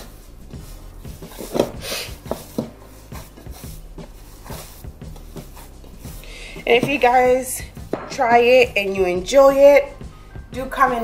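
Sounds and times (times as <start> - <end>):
hand squishing dough in bowl: 0.0 - 10.0.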